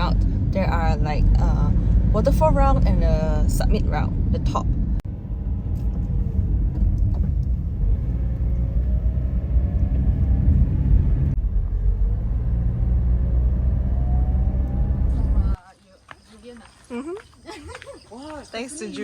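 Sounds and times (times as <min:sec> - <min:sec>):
car road and engine rumble: 0:00.0 - 0:15.6.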